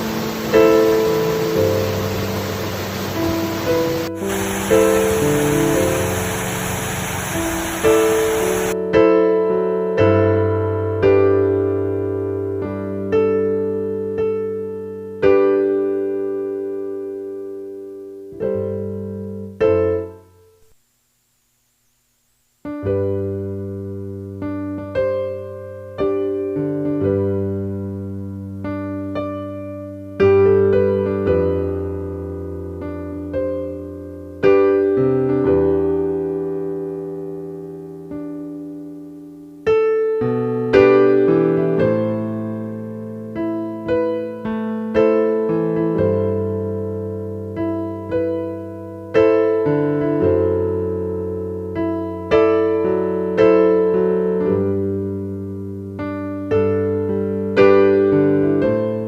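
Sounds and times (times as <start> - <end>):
slow piano music: 0.0 - 20.7, 22.7 - 59.0.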